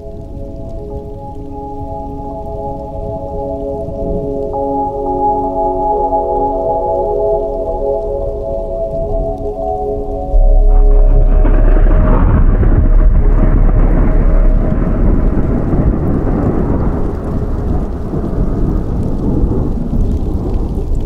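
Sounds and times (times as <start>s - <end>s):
rain-like hiss: 0.0s - 21.0s
rolling thunder rumble: 0.0s - 21.0s.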